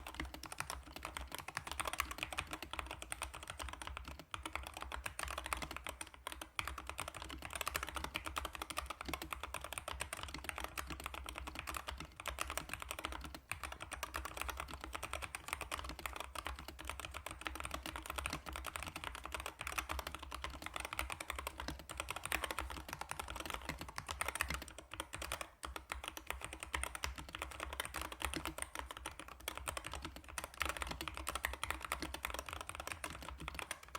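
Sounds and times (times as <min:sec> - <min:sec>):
fast keyboard typing: 0:00.0 - 0:33.9.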